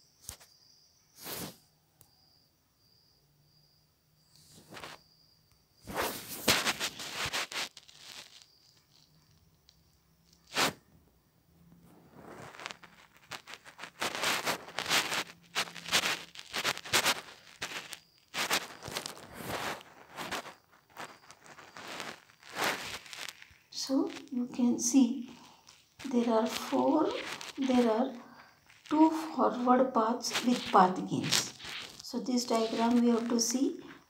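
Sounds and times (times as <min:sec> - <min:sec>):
rustling and scraping: 0:01.2 - 0:01.6, 0:04.3 - 0:05.1, 0:05.8 - 0:10.9, 0:11.6 - 0:34.0.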